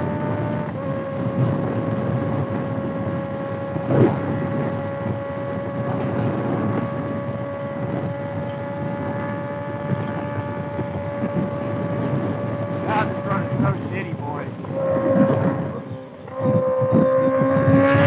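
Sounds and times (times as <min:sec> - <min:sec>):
motorcycle engine cruising: 0:00.0 - 0:18.0
wind noise on microphone: 0:00.0 - 0:18.0.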